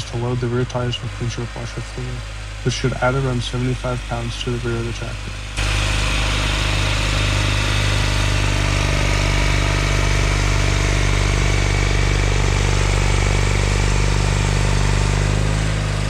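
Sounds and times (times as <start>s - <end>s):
garden tractor engine running: 0.0s - 16.0s.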